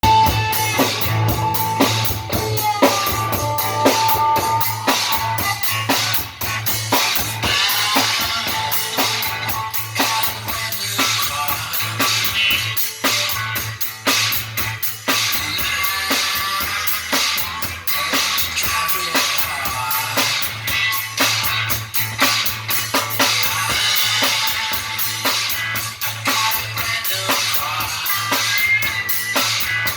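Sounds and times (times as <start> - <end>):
drum kit beat: 0.0 - 29.9
guitar: 0.0 - 29.9
rock and roll band playing: 0.0 - 29.9.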